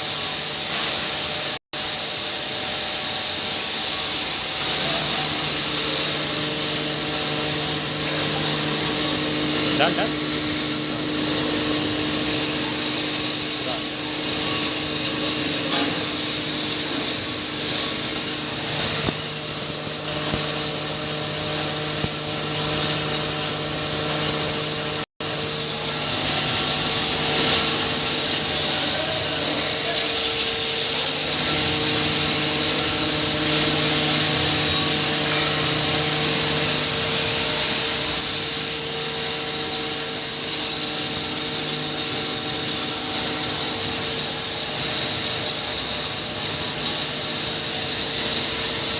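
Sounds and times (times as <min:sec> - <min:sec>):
grinding mill running: 0:00.0 - 0:48.9.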